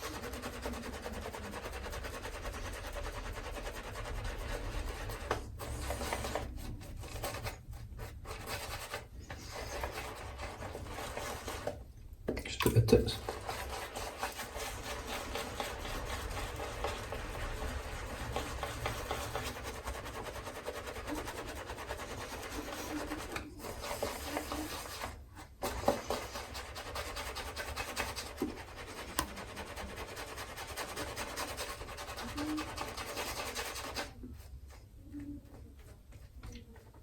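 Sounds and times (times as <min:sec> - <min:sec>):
shaving brush rubbing on soap: 0:00.0 - 0:11.9, 0:13.0 - 0:36.0.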